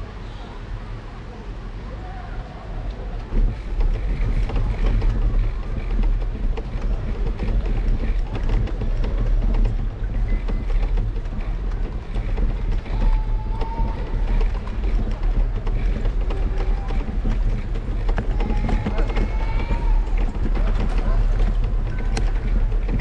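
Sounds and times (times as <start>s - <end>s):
road noise: 0.0s - 23.0s
wind on microphone: 2.7s - 23.0s.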